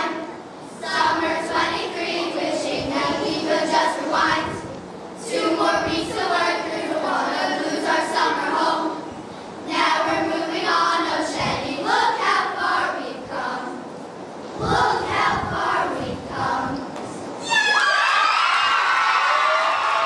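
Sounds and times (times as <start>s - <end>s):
girls choir singing: 0.0s - 16.9s.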